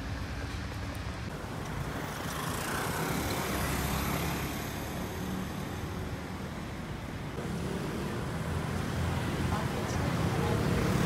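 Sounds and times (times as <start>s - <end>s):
vehicle rumble and hiss: 0.0s - 11.0s.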